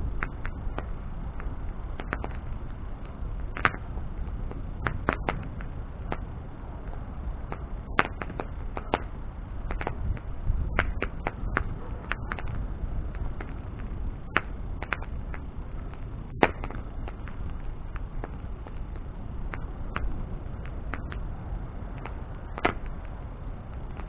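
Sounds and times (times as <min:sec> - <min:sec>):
bonfire low rumble: 0:00.0 - 0:24.0
fire crackles and pops: 0:00.0 - 0:24.0.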